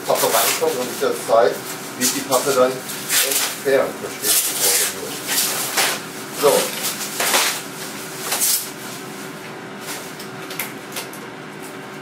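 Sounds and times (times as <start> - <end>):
paper and plastic bag rustling: 0.1 - 10.2.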